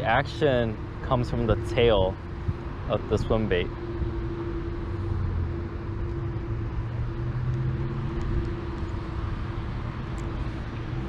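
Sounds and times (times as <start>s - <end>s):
steady low hum: 0.0s - 11.0s
wind rumbling over microphone: 0.0s - 11.0s.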